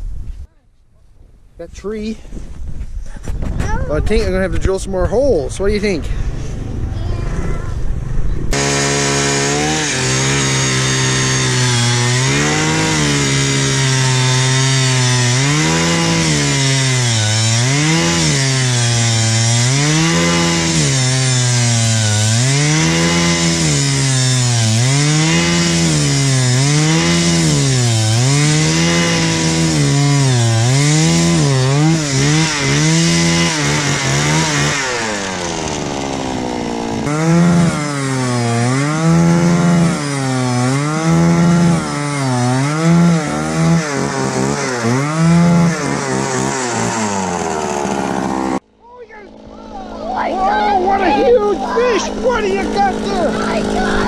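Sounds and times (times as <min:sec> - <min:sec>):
ice auger engine drilling: 0:08.5 - 0:48.6, 0:50.2 - 0:54.0.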